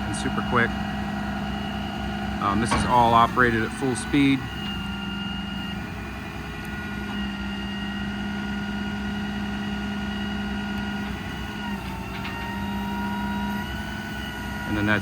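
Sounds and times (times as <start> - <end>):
diesel engine running: 0.0 - 15.0
hydraulic whine: 0.0 - 15.0.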